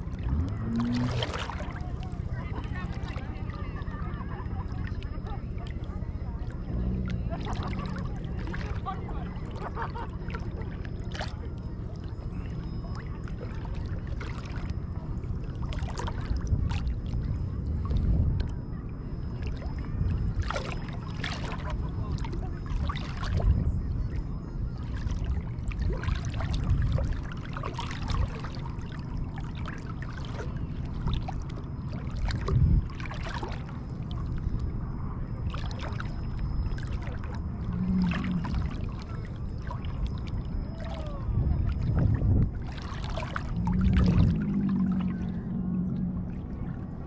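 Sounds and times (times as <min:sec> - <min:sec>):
low steady rumble: 0:00.0 - 0:47.0
seawater lapping and splashing: 0:00.0 - 0:47.0.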